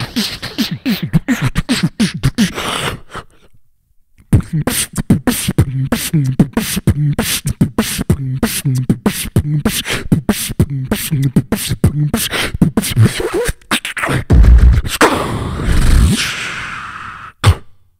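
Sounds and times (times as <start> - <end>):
beatboxing into microphone: 0.0 - 3.5, 4.2 - 17.8.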